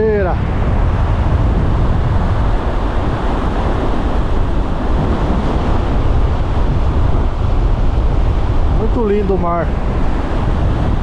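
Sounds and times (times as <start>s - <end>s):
ocean waves breaking: 0.0s - 11.0s
wind buffeting microphone: 0.0s - 11.0s.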